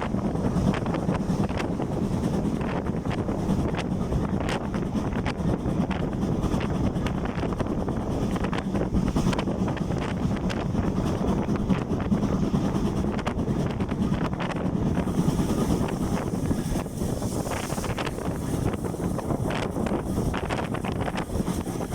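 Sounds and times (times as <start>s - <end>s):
train running: 0.0s - 21.9s
wind buffeting microphone: 0.0s - 21.9s.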